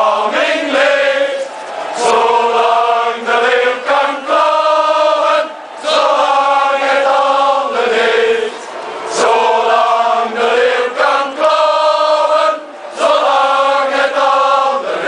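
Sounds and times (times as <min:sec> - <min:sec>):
crowd singing in unison: 0:00.0 - 0:15.0.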